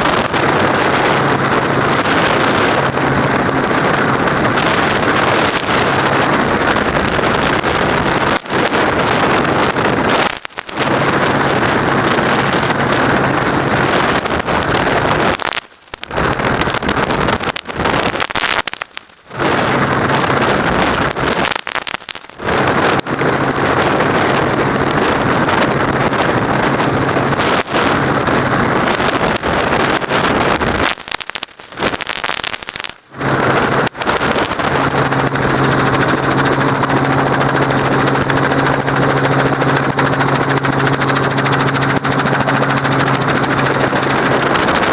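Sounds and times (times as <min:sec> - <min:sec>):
helicopter engine and rotor noise: 0:00.0 - 0:21.5, 0:22.3 - 0:30.9, 0:32.8 - 0:44.9
higher hum: 0:00.0 - 0:44.9
low steady hum: 0:00.0 - 0:44.9.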